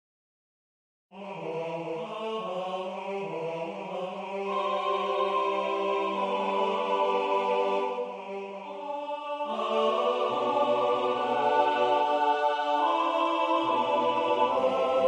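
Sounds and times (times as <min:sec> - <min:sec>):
choir singing: 0:01.2 - 0:15.0.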